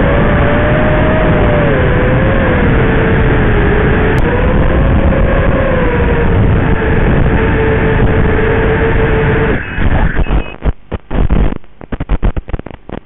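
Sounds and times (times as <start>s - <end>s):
drone motors whining: 0.0s - 10.7s.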